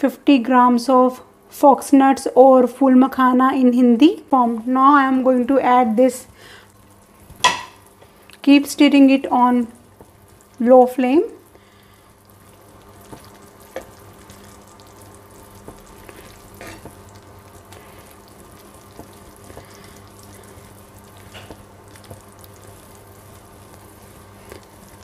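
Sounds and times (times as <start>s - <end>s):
pudding sizzling in a pan: 4.0s - 25.0s.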